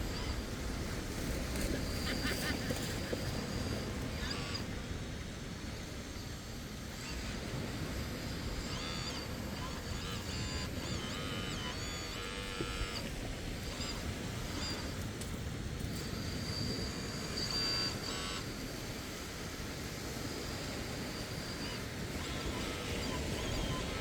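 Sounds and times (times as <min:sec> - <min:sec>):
hydraulic pump whining: 0:00.0 - 0:24.0.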